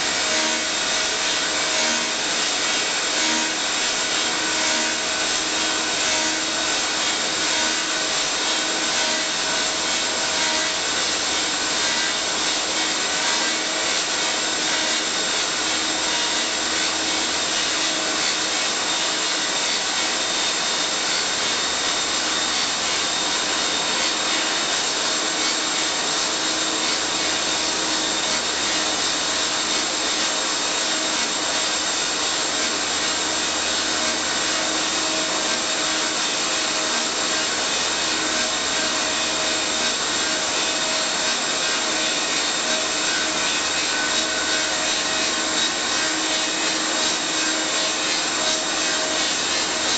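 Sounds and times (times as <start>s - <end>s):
wood lathe rasping: 0.0s - 49.9s.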